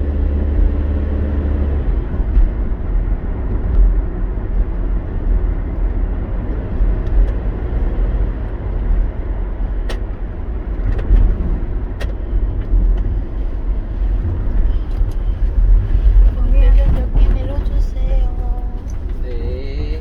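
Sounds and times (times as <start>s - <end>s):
vehicle cabin road rumble: 0.0s - 20.0s.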